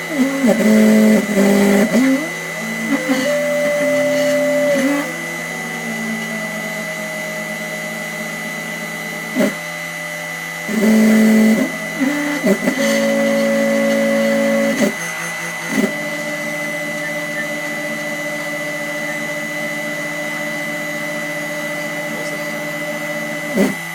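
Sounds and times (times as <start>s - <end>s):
milling machine motor whine: 0.0s - 23.9s
stepper motor tones: 0.0s - 23.9s.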